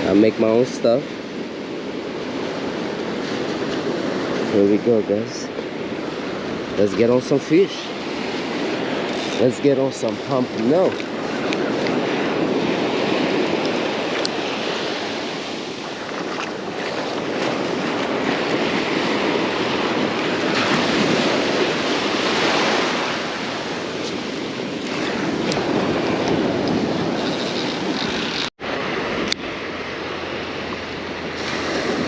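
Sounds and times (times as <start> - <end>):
ocean surf breaking: 0.0 - 32.0
wind buffeting microphone: 0.0 - 32.0.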